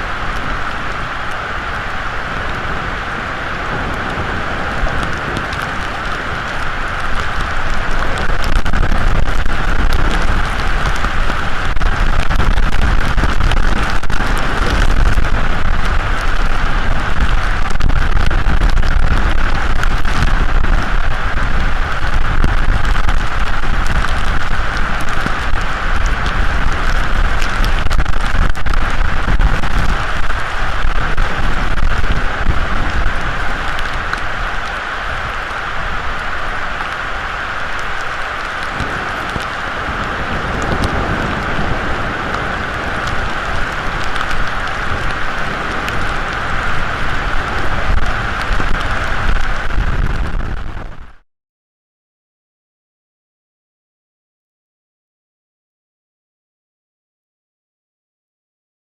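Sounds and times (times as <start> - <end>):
heavy rain: 0.0 - 51.2
low wind rumble: 0.0 - 51.2
raindrops striking close by: 0.0 - 51.2.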